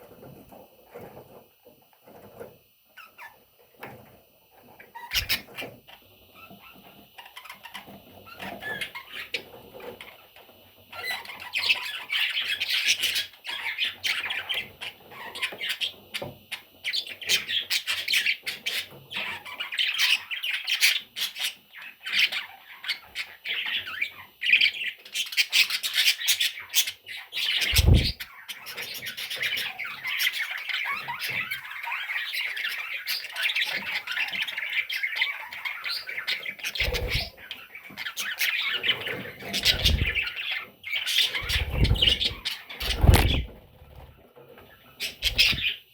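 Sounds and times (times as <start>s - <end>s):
budgerigar chicks chirping: 4.8s - 9.8s, 10.9s - 44.1s, 44.8s - 45.9s.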